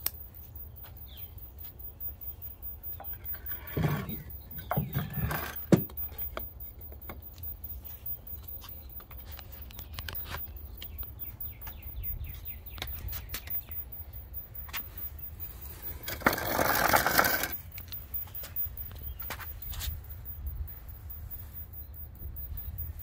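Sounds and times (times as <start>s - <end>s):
bird chirping: 0.0s - 16.1s, 17.7s - 23.0s.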